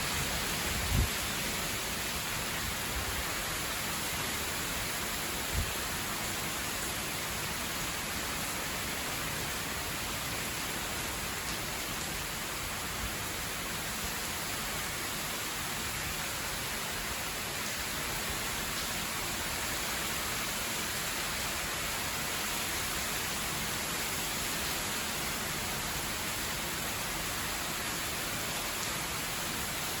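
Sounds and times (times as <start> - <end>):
wind and rain rushing hiss: 0.0 - 30.0.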